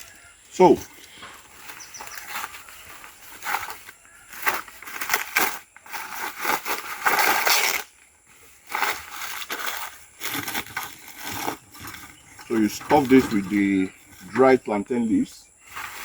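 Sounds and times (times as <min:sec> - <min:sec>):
dry leaves crackling and rustling: 0:00.0 - 0:14.5, 0:15.6 - 0:16.0.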